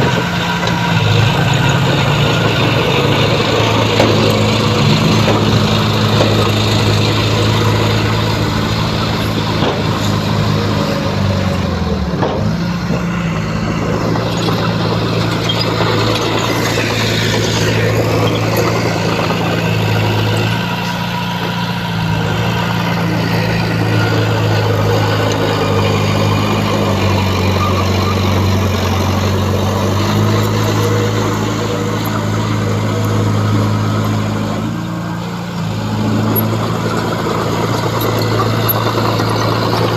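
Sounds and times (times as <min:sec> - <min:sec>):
diesel earthmoving machine engine: 0:00.0 - 0:39.9.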